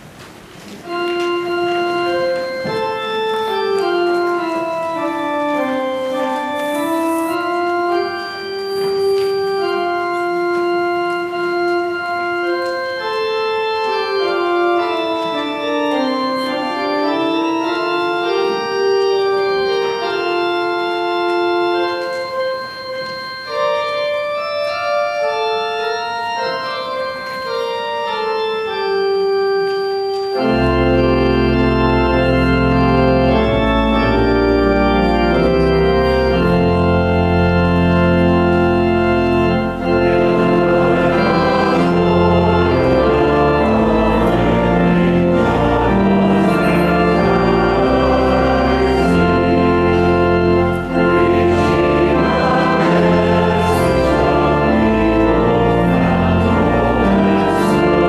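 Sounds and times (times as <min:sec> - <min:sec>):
church organ slow melody: 0:00.0 - 0:58.0.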